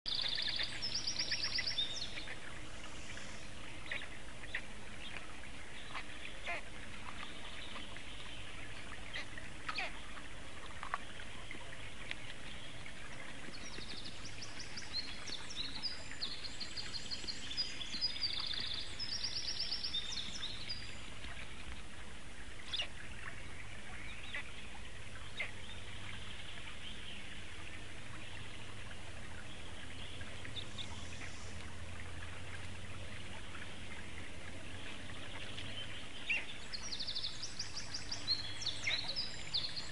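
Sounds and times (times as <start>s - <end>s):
songbirds trilling: 0.1s - 39.9s
steady background hiss: 0.1s - 39.9s.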